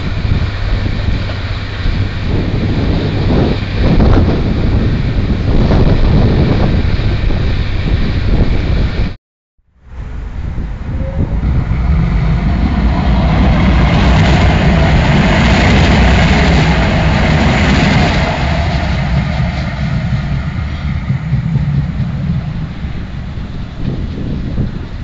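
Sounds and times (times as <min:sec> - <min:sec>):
tram passing on rails: 0:00.0 - 0:09.2, 0:09.8 - 0:25.0.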